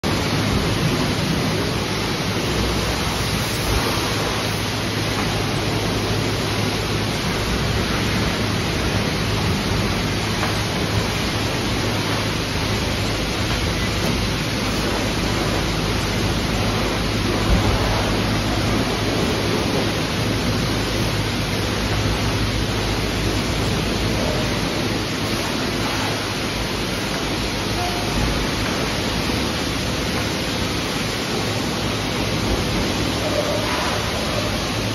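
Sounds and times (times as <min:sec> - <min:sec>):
low hum of pumps: 0:00.0 - 0:34.9
water spraying: 0:00.0 - 0:34.9.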